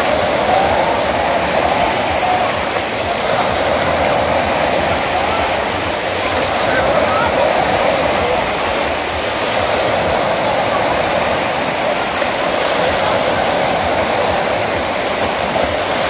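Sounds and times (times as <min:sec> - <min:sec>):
waves breaking in shallows: 0:00.0 - 0:16.0.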